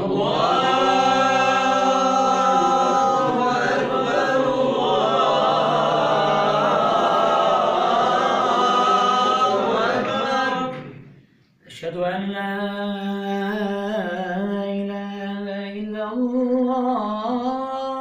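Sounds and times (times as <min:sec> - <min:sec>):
man singing call to prayer: 0:00.0 - 0:10.8, 0:11.7 - 0:18.0.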